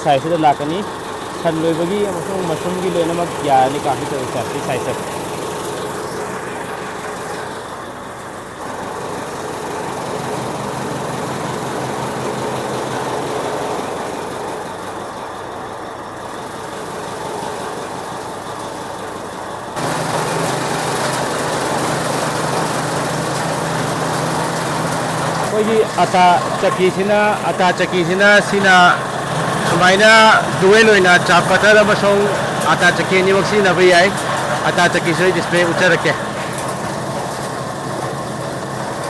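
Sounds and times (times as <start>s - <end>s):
chaff cutter running: 0.0s - 39.0s.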